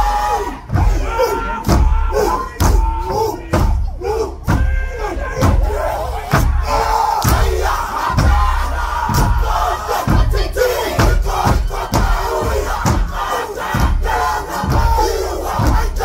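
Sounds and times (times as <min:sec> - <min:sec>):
group chanting in unison: 0:00.0 - 0:16.0.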